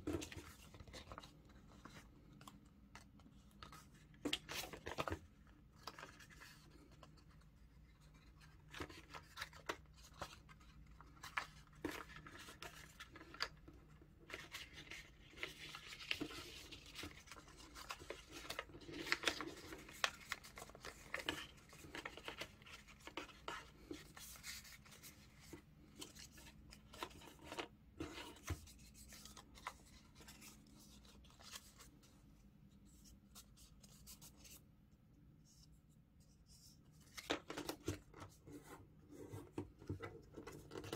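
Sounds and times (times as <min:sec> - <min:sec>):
paper rustling and crinkling: 0:00.0 - 0:34.6, 0:36.5 - 0:40.9.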